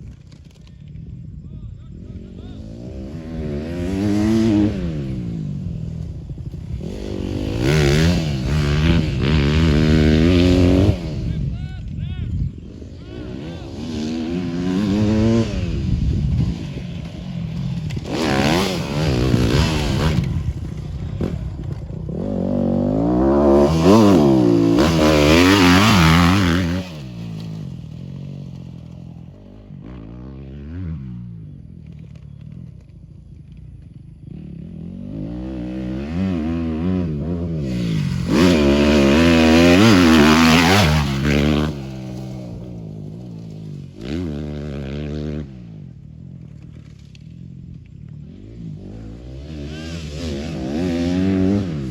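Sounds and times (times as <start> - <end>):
motorcycle engines revving: 0.0 - 51.9.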